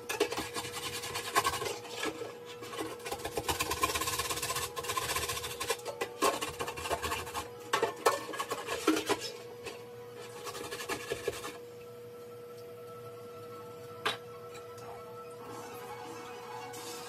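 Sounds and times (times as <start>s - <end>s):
dishes clinking and scraping: 0.0s - 11.6s, 13.9s - 17.0s.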